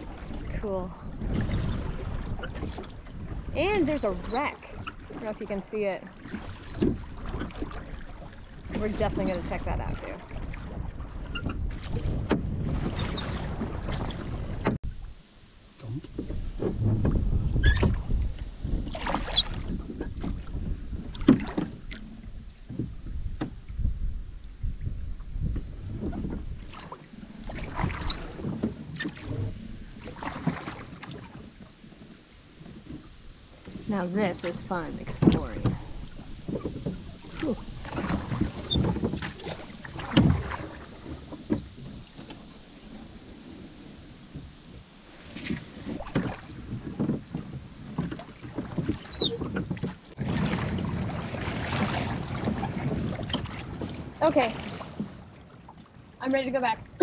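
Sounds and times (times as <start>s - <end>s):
oars splashing in water: 0.0s - 57.0s
wind rumble on microphone: 0.0s - 57.0s.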